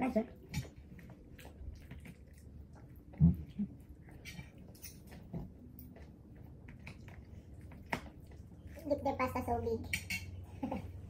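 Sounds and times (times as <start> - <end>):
chewing and mouth noises: 0.0 - 9.1.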